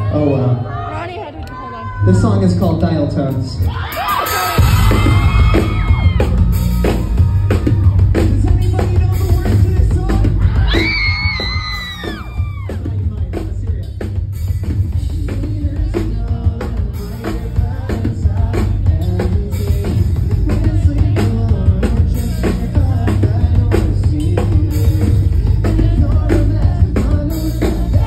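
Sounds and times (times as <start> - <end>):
live band playing: 0.0 - 28.0
heavy bass: 2.0 - 28.0
drum kit steady beat: 2.5 - 28.0.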